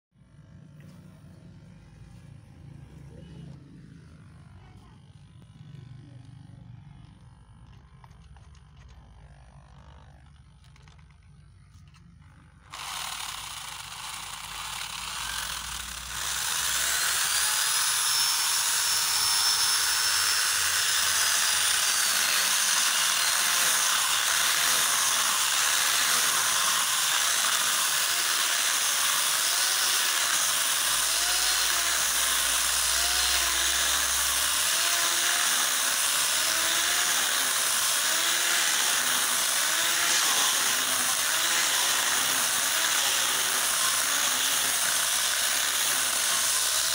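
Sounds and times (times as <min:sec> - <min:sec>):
small chainsaw sawing a log: 0:02.9 - 0:46.9.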